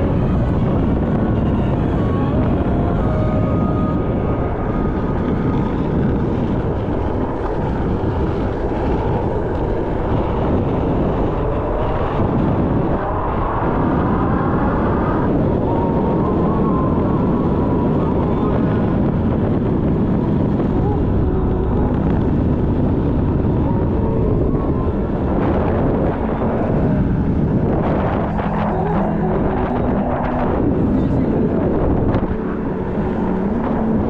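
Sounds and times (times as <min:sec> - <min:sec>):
wind rumble: 0:00.0 - 0:34.0.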